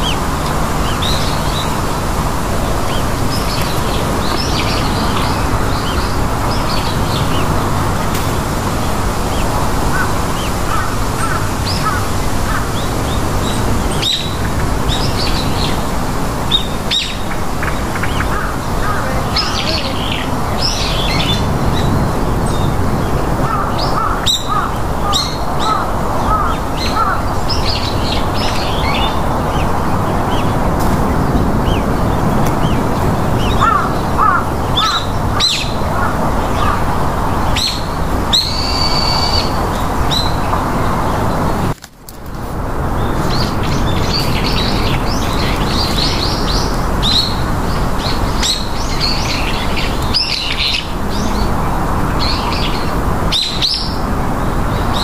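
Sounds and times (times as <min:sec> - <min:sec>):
small birds chirping: 0:00.0 - 0:41.8, 0:42.8 - 0:55.0
steady background hiss: 0:00.0 - 0:55.0.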